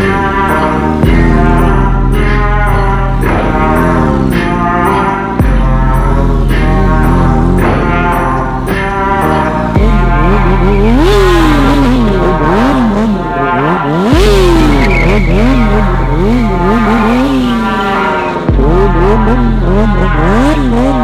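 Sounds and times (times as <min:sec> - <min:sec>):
low background music: 0:00.0 - 0:21.0
motorcycle engine revving: 0:00.0 - 0:21.0.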